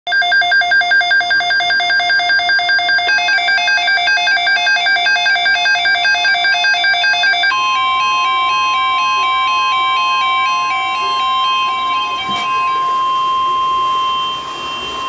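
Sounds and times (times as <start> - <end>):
alternating electronic alert beeps: 0.1 - 15.0.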